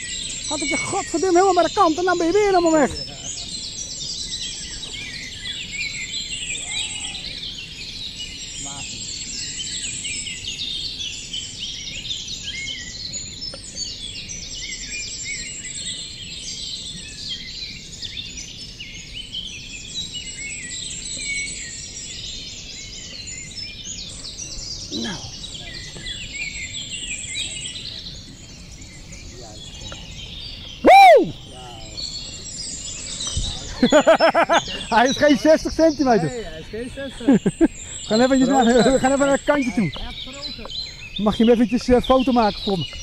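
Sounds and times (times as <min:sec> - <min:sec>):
low outdoor hum: 0:00.0 - 0:43.0
songbirds chirping and twittering: 0:00.0 - 0:43.0.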